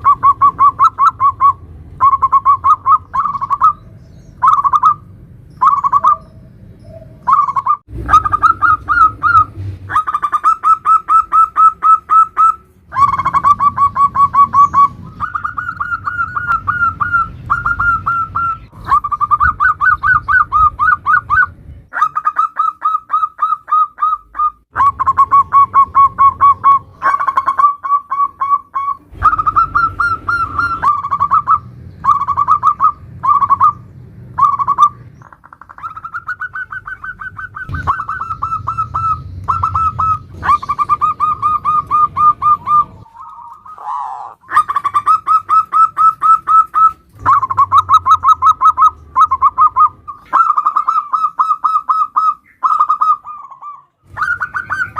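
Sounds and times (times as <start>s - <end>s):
doves cooing: 0.0s - 54.9s.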